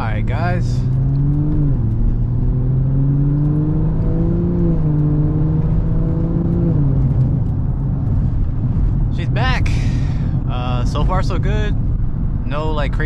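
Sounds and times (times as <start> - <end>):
car engine accelerating through gears: 0.0 - 11.5.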